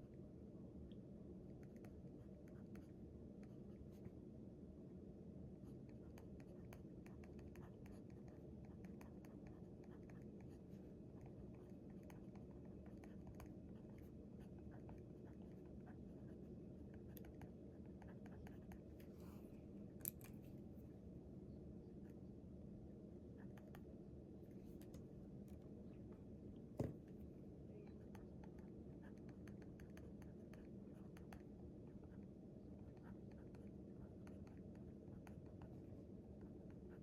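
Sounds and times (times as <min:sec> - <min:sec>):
low room hum: 0:00.0 - 0:37.0.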